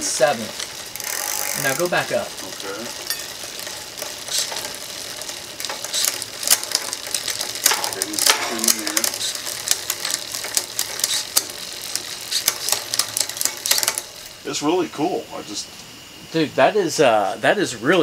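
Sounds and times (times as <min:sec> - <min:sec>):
derailleur clicks: 0:00.0 - 0:14.5
bicycle chain whirring: 0:00.0 - 0:16.2.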